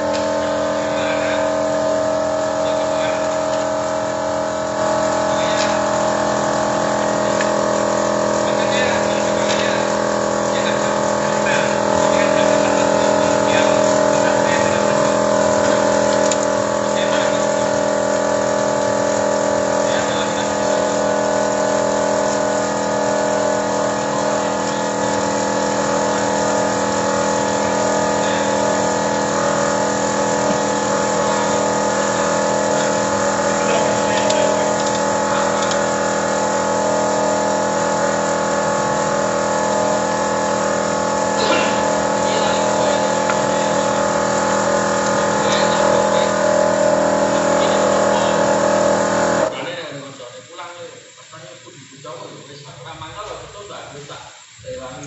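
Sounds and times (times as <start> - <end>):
car engine idling: 0.0 - 49.5.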